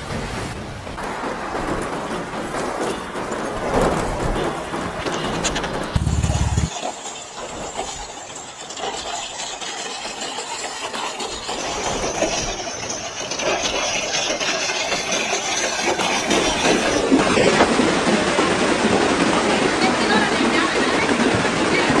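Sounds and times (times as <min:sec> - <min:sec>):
floodwater rushing through street: 0:00.0 - 0:22.0
heavy rain: 0:00.0 - 0:22.0.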